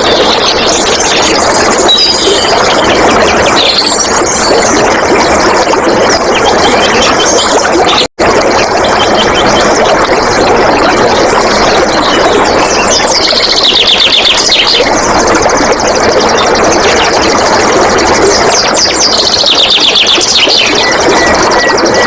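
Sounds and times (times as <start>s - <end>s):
water flowing and splashing: 0.0s - 22.0s.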